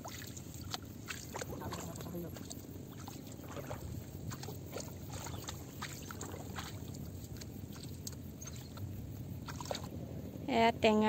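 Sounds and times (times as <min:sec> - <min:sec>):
muddy water sloshing: 0:00.0 - 0:10.0
small splashes: 0:00.0 - 0:10.0.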